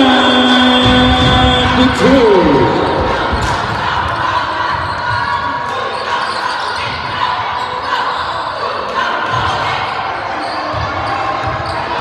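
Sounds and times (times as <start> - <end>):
spectators' voices: 0.0 - 12.0.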